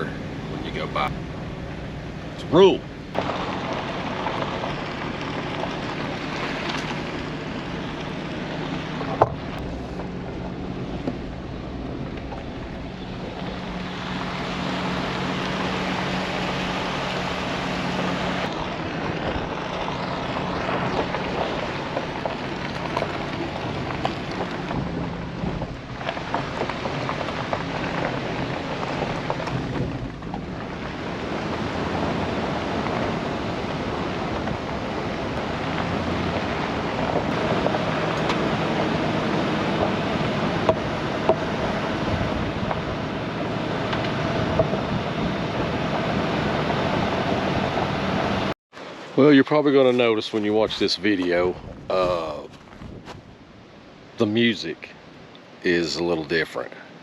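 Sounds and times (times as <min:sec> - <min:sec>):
tyres on gravel: 0:00.0 - 0:53.4
truck engine hum: 0:00.0 - 0:56.7.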